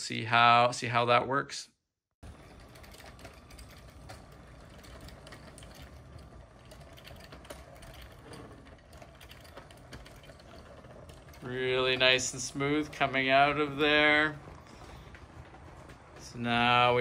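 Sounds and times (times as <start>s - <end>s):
wheels clicking over rail joints: 2.2s - 17.0s.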